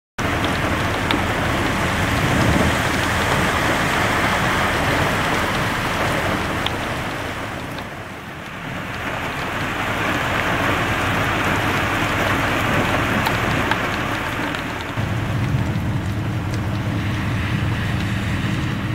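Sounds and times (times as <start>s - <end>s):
heavy rain on standing water: 0.2s - 18.9s.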